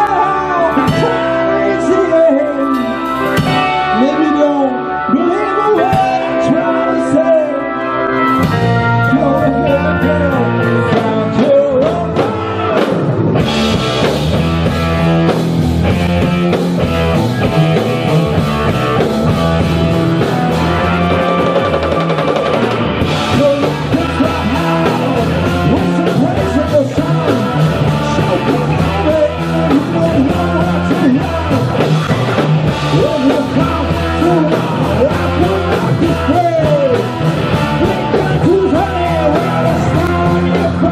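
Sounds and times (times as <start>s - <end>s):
drum kit: 0.0s - 4.4s, 8.2s - 40.9s
bass guitar: 0.0s - 40.9s
blues-rock band playing: 0.0s - 40.9s.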